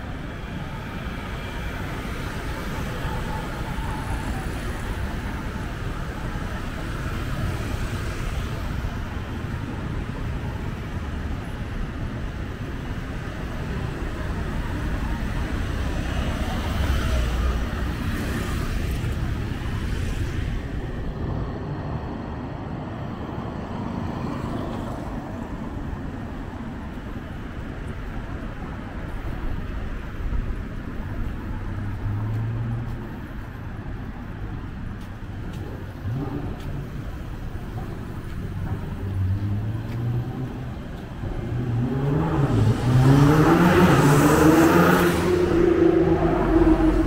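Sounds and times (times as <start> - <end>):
cars passing: 0.0 - 47.0
traffic rumble: 0.0 - 47.0.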